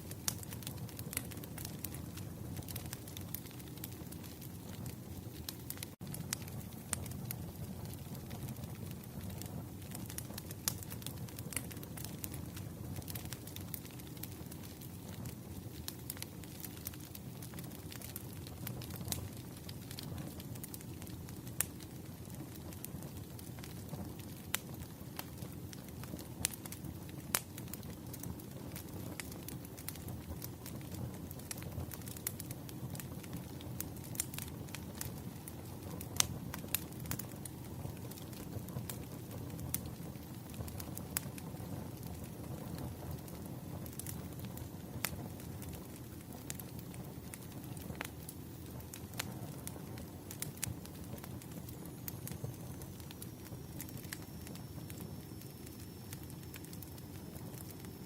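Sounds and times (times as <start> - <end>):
campfire flames rumbling: 0.0 - 58.0
wood crackling and popping: 0.0 - 58.0.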